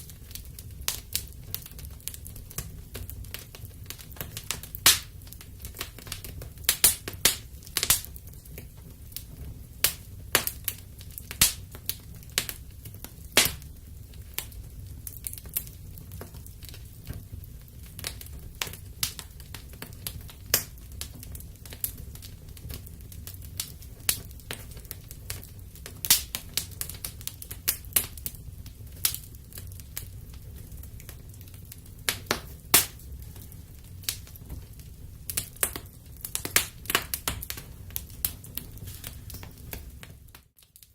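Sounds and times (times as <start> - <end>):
low rumble of fire: 0.0 - 40.9
wood fire crackling: 0.0 - 40.9.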